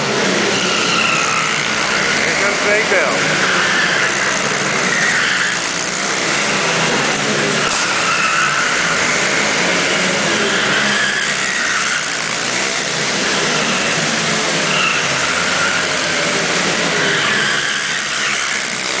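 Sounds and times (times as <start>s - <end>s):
minibike engines revving: 0.0s - 19.0s.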